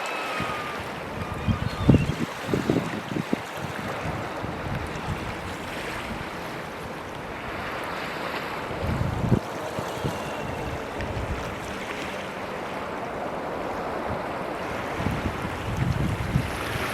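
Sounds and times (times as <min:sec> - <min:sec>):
wind buffeting microphone: 0:00.0 - 0:12.0, 0:12.6 - 0:16.9
waves: 0:00.0 - 0:16.9
wind: 0:00.0 - 0:16.9.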